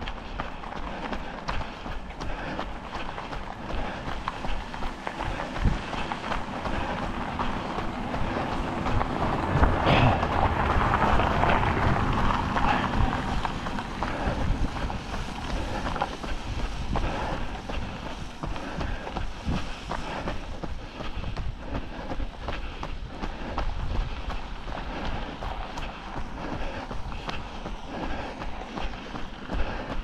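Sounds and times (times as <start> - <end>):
rushing noise: 0.0 - 30.0
wind buffeting microphone: 0.0 - 30.0.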